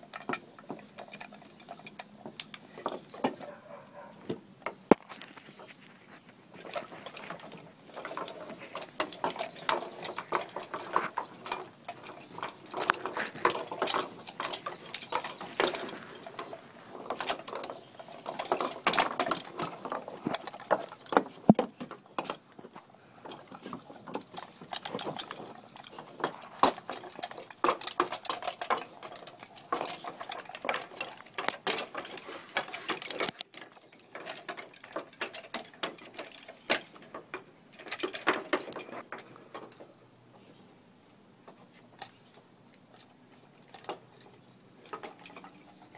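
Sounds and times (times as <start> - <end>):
wooden marionette clattering on boards: 0.0 - 40.0, 41.4 - 45.9.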